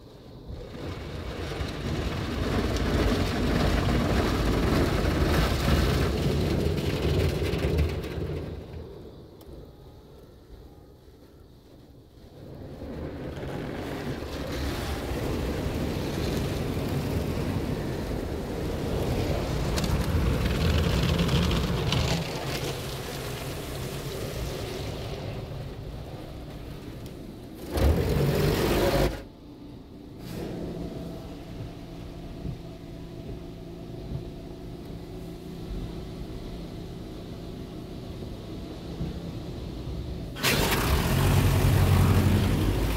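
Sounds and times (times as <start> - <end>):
car wash brushes and water spray: 0.0 - 9.2, 11.1 - 42.9
low rumble: 0.2 - 42.9.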